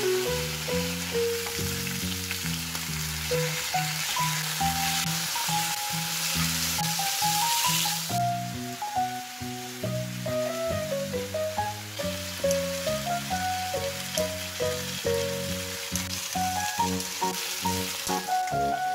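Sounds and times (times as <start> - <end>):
light background music: 0.0 - 2.4, 3.2 - 18.9
meat and garlic sizzling in a pan: 0.0 - 18.9.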